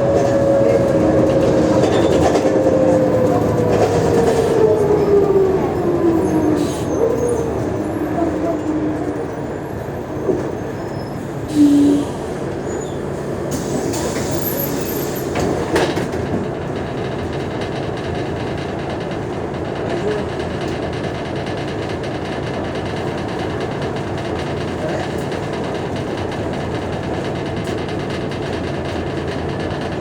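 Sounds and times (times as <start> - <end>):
bus engine drone: 0.0 - 30.0.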